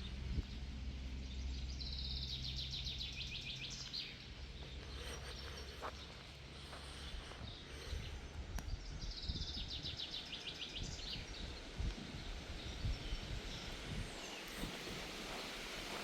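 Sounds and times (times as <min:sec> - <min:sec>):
wind rumble on microphone: 0:00.0 - 0:06.0, 0:07.0 - 0:16.0.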